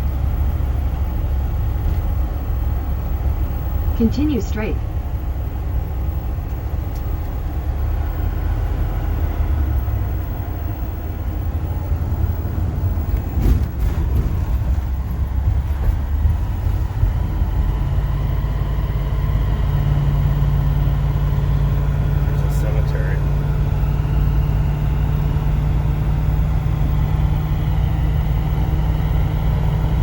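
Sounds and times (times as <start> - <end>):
low steady hum: 0.0 - 28.7
car engine and tyre rumble: 0.0 - 30.0.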